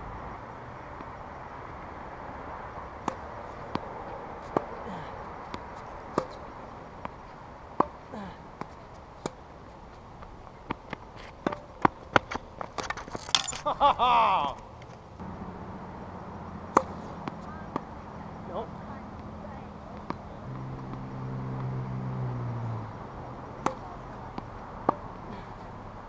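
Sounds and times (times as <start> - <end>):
tennis ball hits and bounces: 2.1 - 13.8, 16.5 - 26.0.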